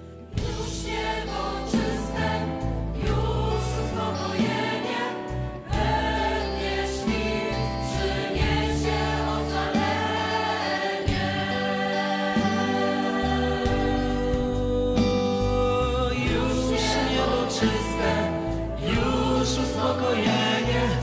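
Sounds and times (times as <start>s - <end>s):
instrumental backing with bass line: 0.0s - 21.0s
choir singing: 0.2s - 21.0s.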